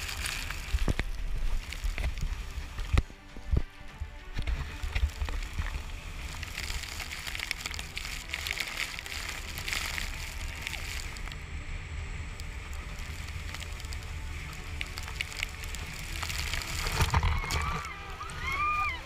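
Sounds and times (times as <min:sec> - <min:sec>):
water splashing and sloshing: 0:00.0 - 0:11.5, 0:12.3 - 0:19.0
low rumble: 0:00.0 - 0:19.0.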